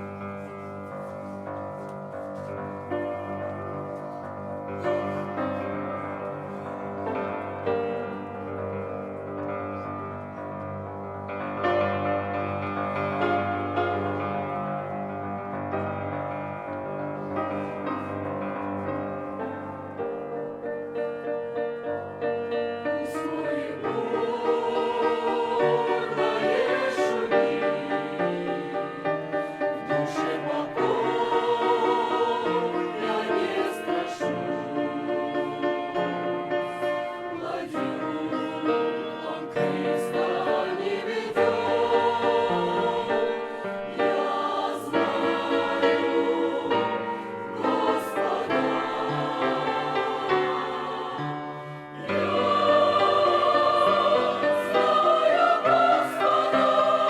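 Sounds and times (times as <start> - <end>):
choir singing a hymn: 0.0 - 57.0
piano accompaniment: 0.0 - 57.0.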